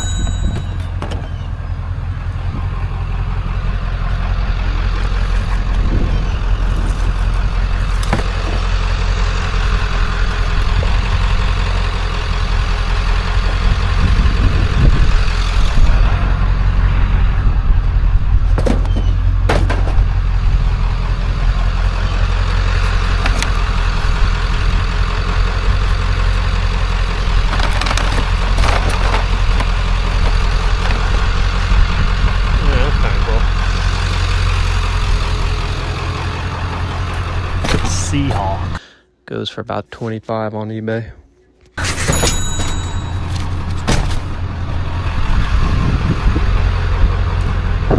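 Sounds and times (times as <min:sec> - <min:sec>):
vehicle engine droning: 0:00.0 - 0:38.9, 0:42.3 - 0:47.9.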